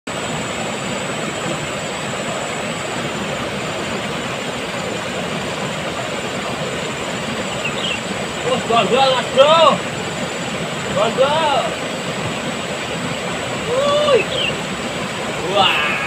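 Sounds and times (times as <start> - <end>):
river rushing over rapids: 0.1 - 16.0.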